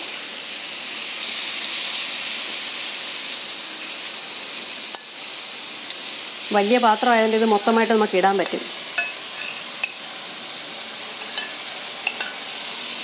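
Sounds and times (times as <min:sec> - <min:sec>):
prawns sizzling in oil: 0:00.0 - 0:13.0.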